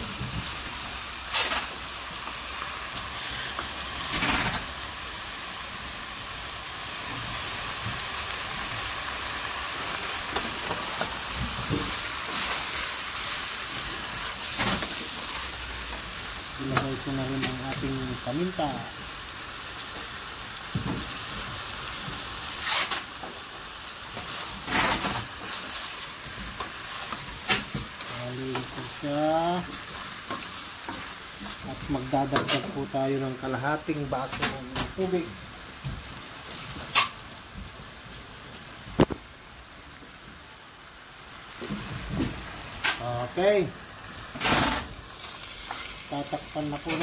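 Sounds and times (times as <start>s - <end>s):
food sizzling in a pot: 0.0s - 47.0s.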